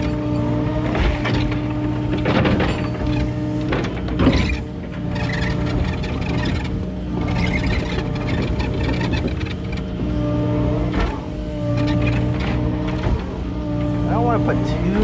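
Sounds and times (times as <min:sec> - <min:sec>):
excavator diesel engine running: 0:00.0 - 0:15.0
machine rattling and clatter: 0:00.0 - 0:15.0.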